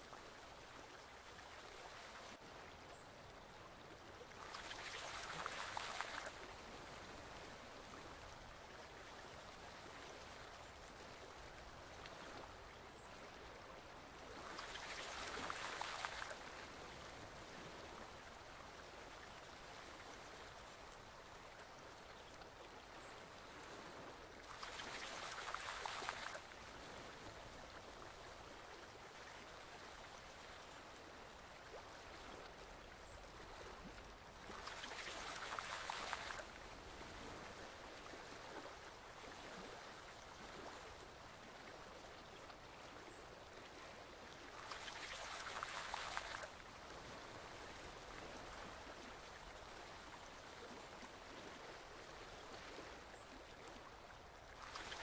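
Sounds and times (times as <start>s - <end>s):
forest stream flowing: 0.0s - 55.0s.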